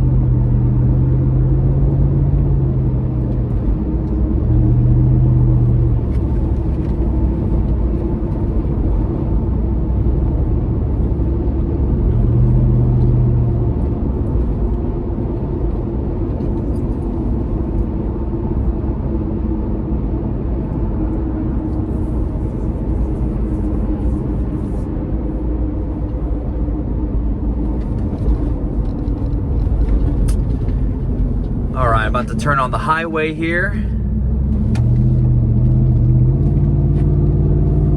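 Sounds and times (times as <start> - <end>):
low exhaust grumble: 0.0 - 37.9
road noise: 0.0 - 37.9.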